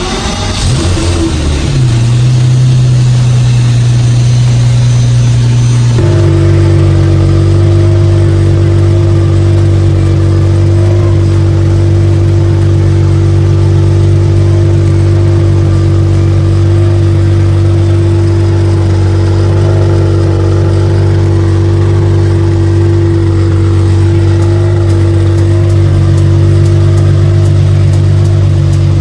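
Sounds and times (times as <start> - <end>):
car engine running steadily: 0.0 - 29.0.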